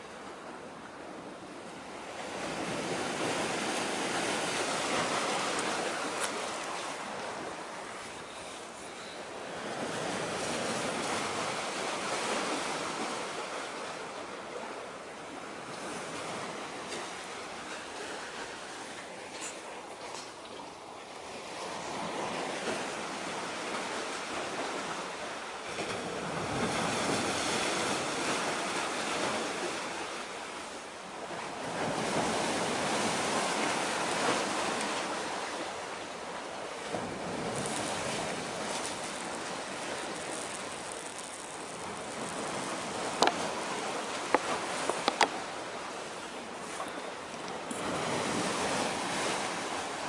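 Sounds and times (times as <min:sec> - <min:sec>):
sea waves washing in: 0:00.0 - 0:20.2, 0:20.8 - 0:50.0.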